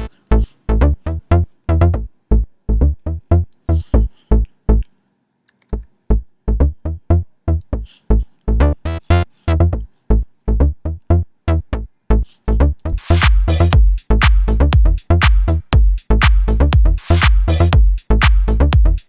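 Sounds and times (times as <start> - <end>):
plucked synth bass riff: 0.0 - 4.8, 6.1 - 19.0.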